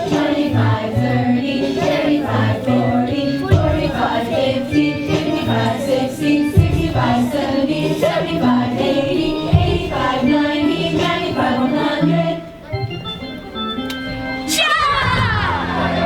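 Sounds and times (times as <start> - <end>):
children singing: 0.0 - 12.9
recorded backing music: 0.0 - 16.0.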